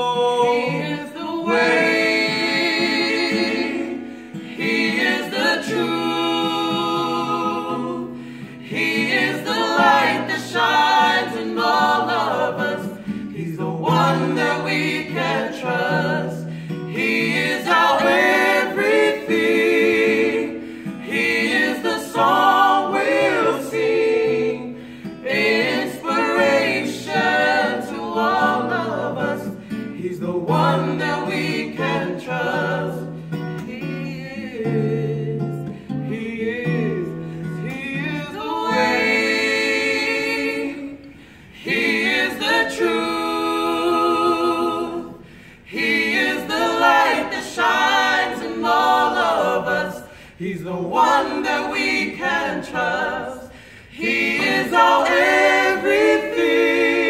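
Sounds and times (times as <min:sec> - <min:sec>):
acoustic guitar: 0:00.0 - 0:57.0
vocal trio singing in harmony: 0:00.0 - 0:57.0.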